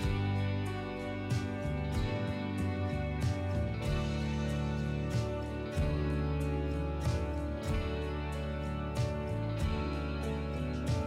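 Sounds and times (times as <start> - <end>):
soft plucked guitar music: 0.0 - 11.0.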